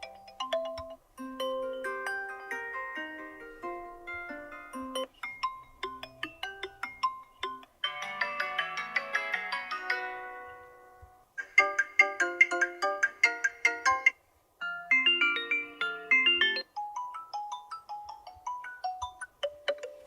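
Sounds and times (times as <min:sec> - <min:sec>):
phone ringtone melodies: 0:00.0 - 0:20.0.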